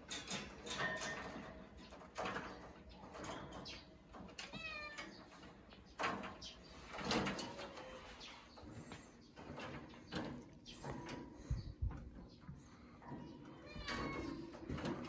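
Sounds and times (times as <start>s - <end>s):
wire cage rattling: 0.0s - 15.0s.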